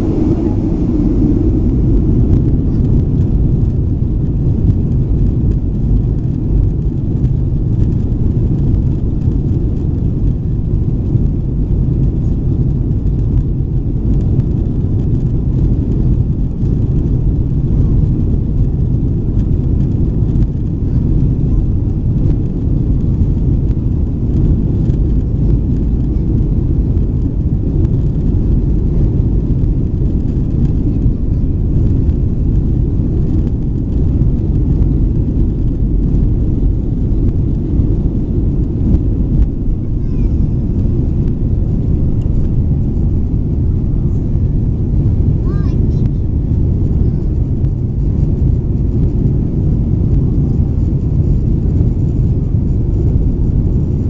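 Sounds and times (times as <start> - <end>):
airplane cabin low rumble: 0.0 - 54.0.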